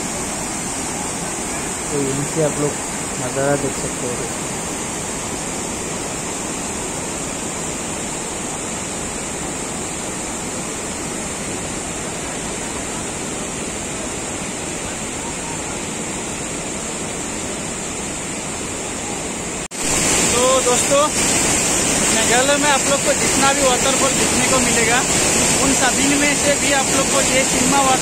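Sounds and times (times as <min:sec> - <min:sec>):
waterfall and rapids rushing: 0:00.0 - 0:28.0.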